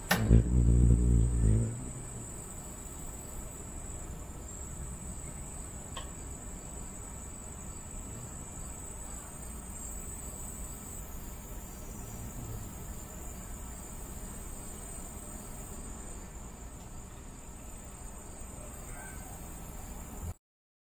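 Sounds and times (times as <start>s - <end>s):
low background noise: 0.0s - 20.4s
crickets trilling: 0.1s - 20.3s.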